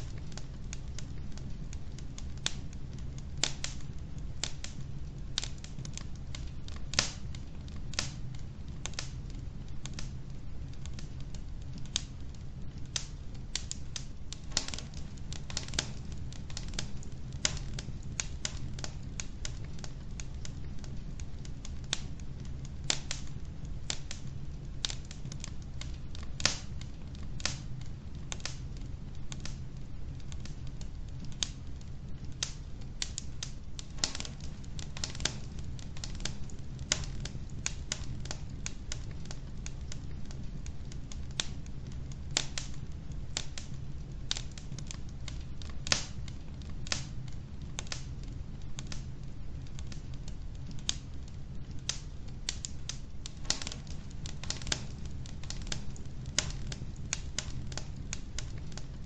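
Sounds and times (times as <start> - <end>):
fire crackling and popping: 0.0 - 59.0
low fire rumble: 0.0 - 59.0.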